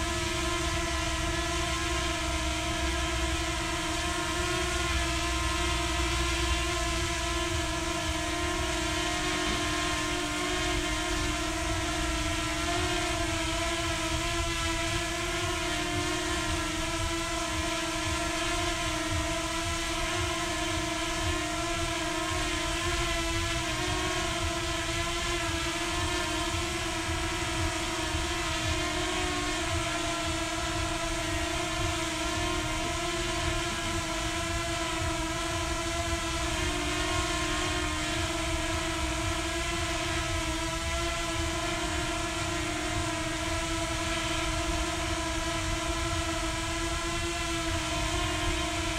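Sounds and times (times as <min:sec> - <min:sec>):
drone propellers whining: 0:00.0 - 0:48.9.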